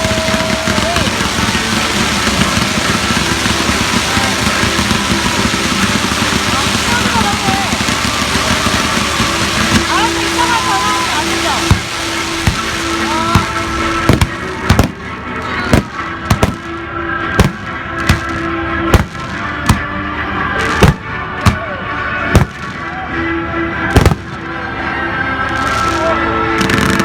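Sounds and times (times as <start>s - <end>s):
fireworks bangs: 0.0s - 23.0s, 23.8s - 24.5s, 25.5s - 27.0s.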